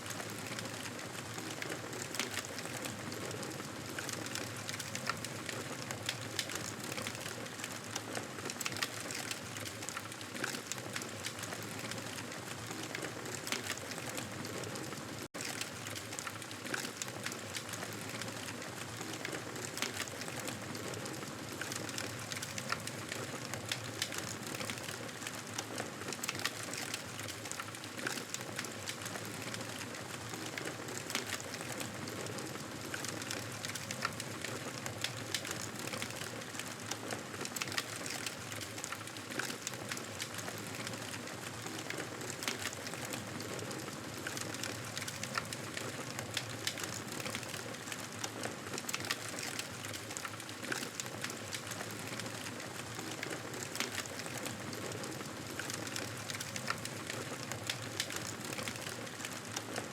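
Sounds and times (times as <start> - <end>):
campfire crackling and popping: 0.1 - 59.8.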